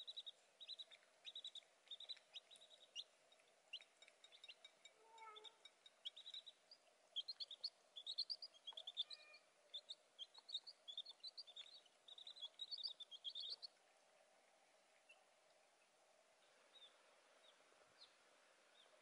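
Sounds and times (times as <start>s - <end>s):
baby chicks peeping: 0.0s - 19.0s.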